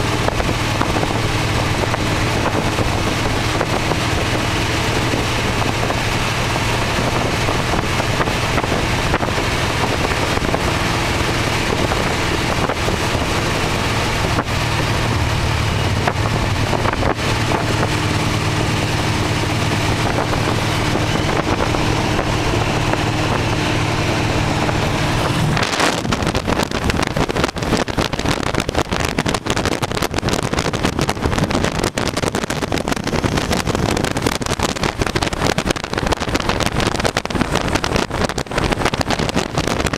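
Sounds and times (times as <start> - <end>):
car engine running: 0.0 - 39.9
wind buffeting microphone: 0.0 - 39.9.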